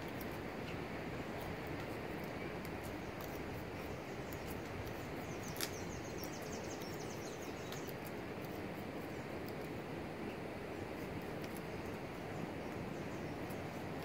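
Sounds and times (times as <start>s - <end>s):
rural background noise: 0.0s - 14.0s.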